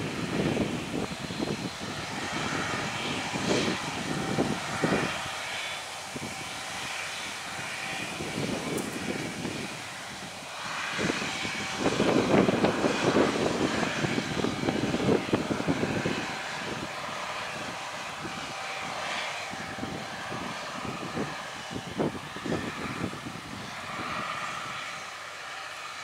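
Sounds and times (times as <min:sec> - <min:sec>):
tractor engine drone: 0:00.0 - 0:26.0.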